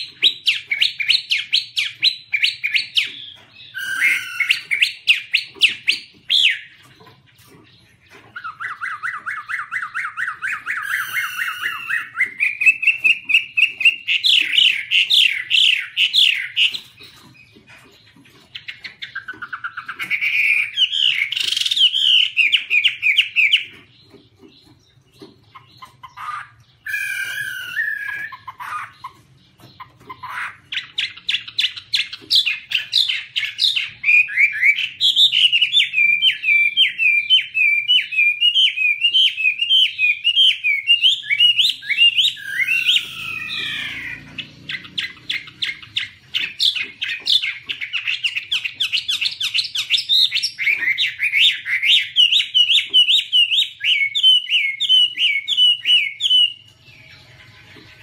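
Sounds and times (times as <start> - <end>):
bird singing fast repeated notes: 0.0 - 58.0.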